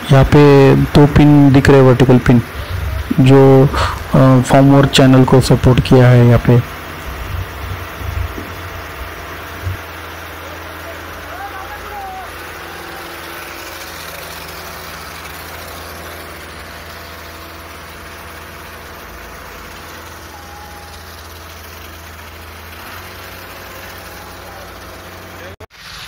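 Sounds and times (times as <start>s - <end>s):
concrete mixer drum turning: 0.0s - 26.0s
truck engine running: 0.0s - 26.0s.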